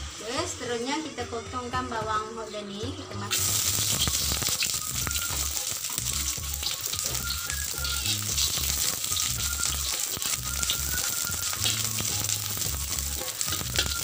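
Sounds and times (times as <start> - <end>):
onions sizzling in a wok: 0.0 - 1.6, 2.5 - 14.0.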